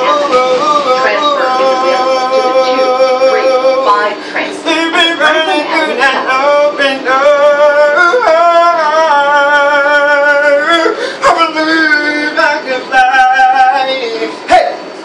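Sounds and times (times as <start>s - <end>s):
man singing unaccompanied: 0.0s - 14.9s.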